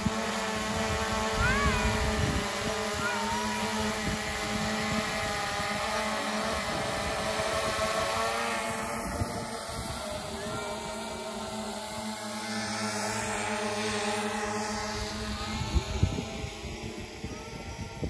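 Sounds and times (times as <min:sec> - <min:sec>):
wind gusting on microphone: 0:00.0 - 0:11.4, 0:14.6 - 0:18.0
small engine humming: 0:00.0 - 0:18.0.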